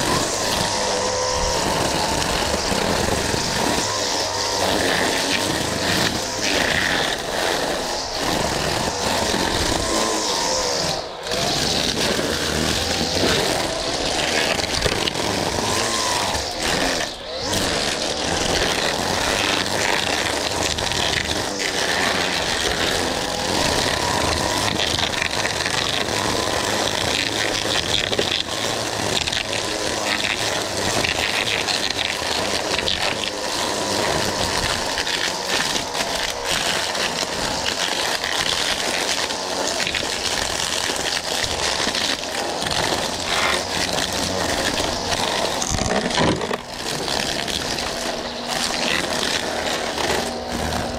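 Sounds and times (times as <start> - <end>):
hiss of blade cutting grass: 0.0 - 50.9
lawn mower engine running: 0.0 - 50.9.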